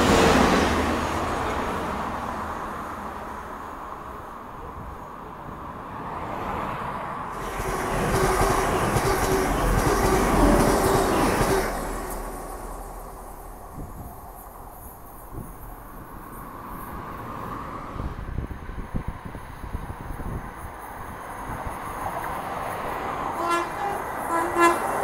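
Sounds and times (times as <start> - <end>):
diesel train passing: 0.0 - 25.0.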